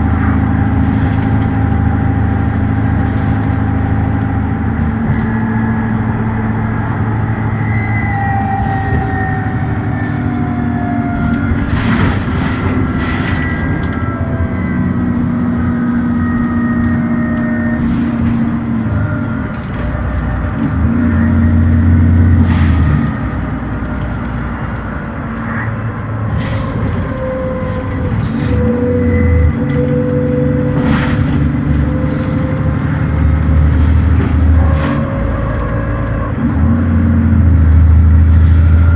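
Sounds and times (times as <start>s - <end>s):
bus engine downshifting: 0.0s - 38.9s.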